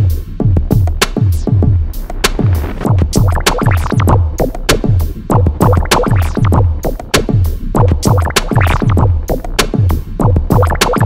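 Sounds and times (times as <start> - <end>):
electronic music: 0.0 - 11.0
booming kick drums: 0.4 - 11.0.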